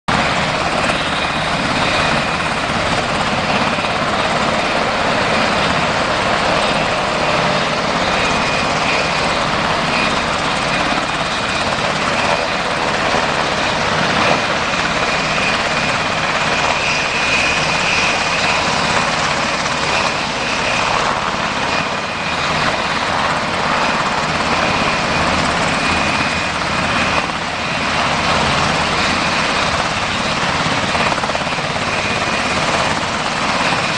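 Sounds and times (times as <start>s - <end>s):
helicopter rotors: 0.1s - 33.9s
high turbine whine: 0.1s - 33.9s.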